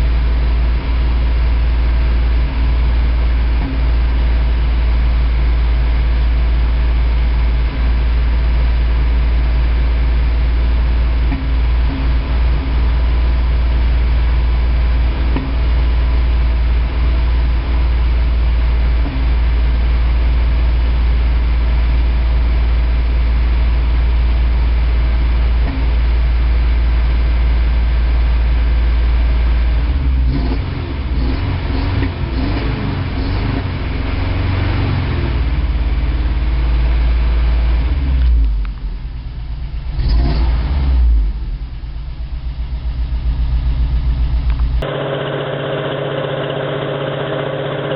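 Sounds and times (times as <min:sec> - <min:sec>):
misfiring engine running: 0:00.0 - 0:47.9.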